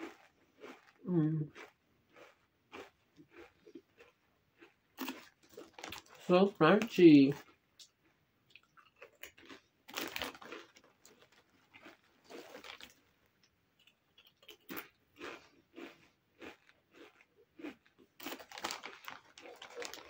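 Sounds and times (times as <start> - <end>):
chewing crunchy chips: 0.0 - 20.0.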